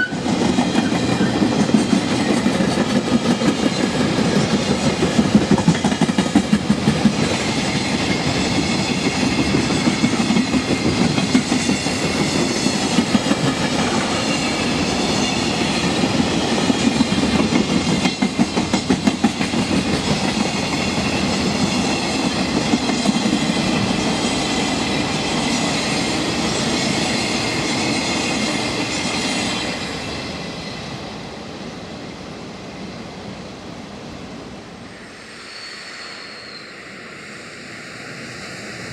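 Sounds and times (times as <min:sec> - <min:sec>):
freight train passing: 0:00.0 - 0:38.9.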